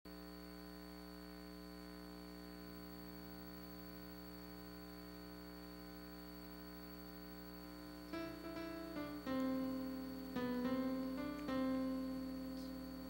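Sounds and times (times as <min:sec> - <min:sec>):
faint electrical hum: 0:00.1 - 0:13.0.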